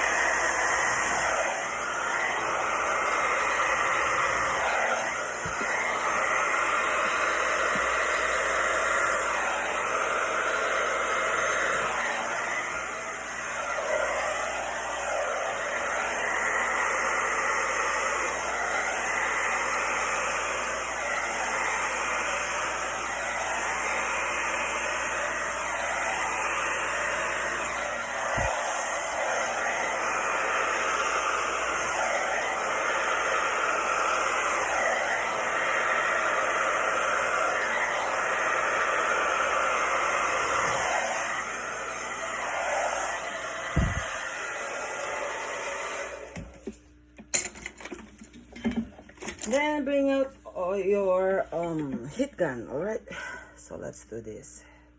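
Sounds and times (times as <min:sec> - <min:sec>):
hot-air blower running: 0:00.0 - 0:54.8.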